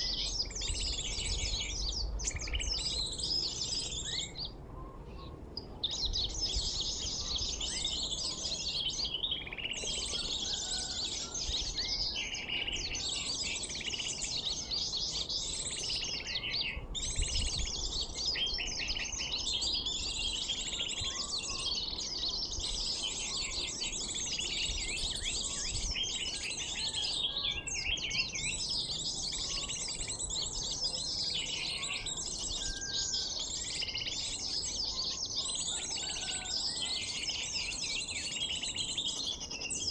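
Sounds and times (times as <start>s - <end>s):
recorded bird chirping and trilling: 0.0s - 39.9s.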